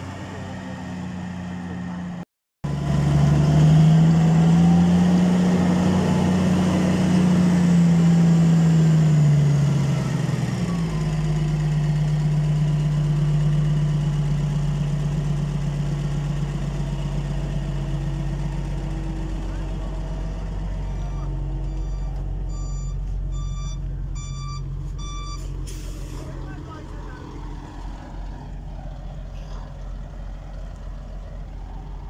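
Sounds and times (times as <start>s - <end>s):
wheel loader diesel engine: 0.0s - 32.0s.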